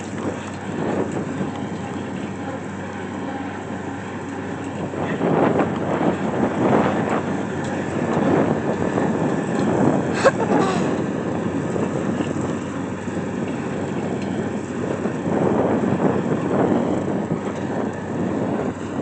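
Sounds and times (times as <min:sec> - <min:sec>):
engine running: 0:00.0 - 0:19.0
wind on microphone: 0:00.0 - 0:19.0.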